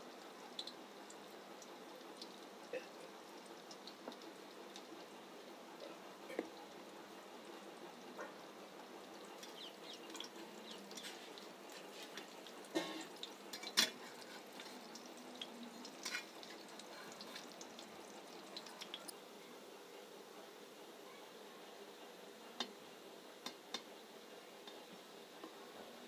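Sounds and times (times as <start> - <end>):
dumplings sizzling in oil: 0.0 - 19.4, 22.6 - 26.0.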